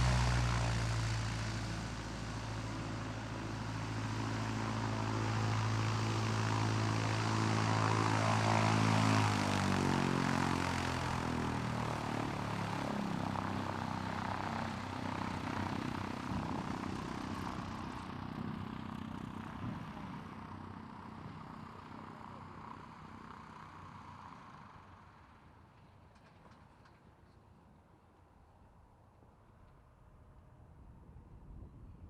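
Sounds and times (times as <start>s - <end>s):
propeller aircraft engine: 0.0s - 32.0s.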